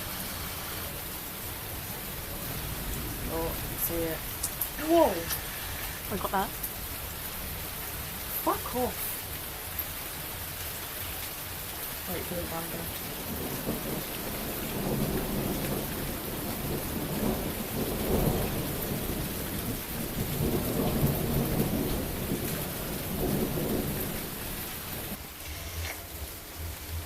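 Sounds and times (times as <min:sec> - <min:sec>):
thunder rumbling: 0:00.0 - 0:09.7, 0:12.0 - 0:25.3
heavy rain falling: 0:00.0 - 0:27.0.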